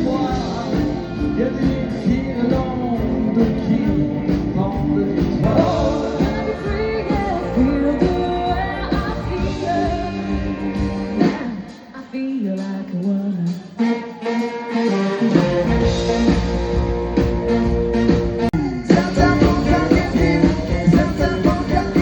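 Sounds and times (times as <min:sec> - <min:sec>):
lead singing voice: 0:00.0 - 0:17.6, 0:18.5 - 0:22.0
pop-rock band: 0:00.0 - 0:22.0.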